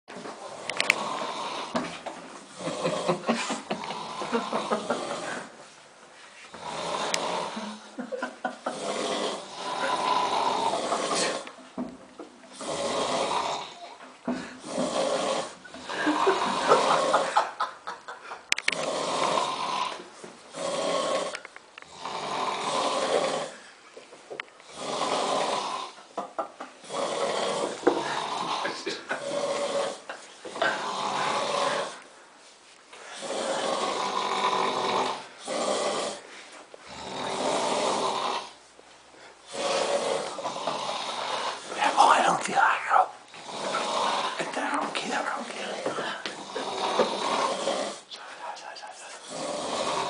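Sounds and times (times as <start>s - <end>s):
man snoring heavily: 0.4s - 5.6s, 6.5s - 11.5s, 12.5s - 17.7s, 18.7s - 23.7s, 24.6s - 26.0s, 26.8s - 32.0s, 33.1s - 36.3s, 36.9s - 38.6s, 39.4s - 48.1s, 49.2s - 50.0s.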